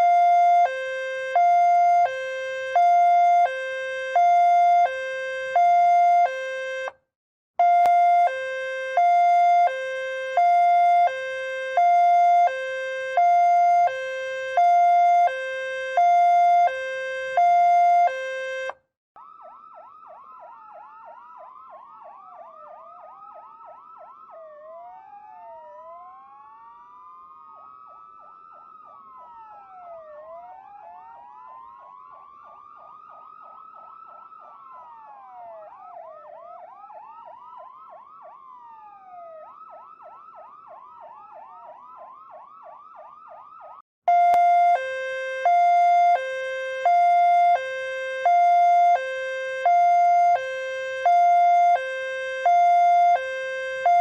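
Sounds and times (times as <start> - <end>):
ambulance siren wailing and yelping: 0.0 - 7.0, 7.6 - 54.0
two-tone hi-lo siren: 0.0 - 7.0, 7.6 - 54.0.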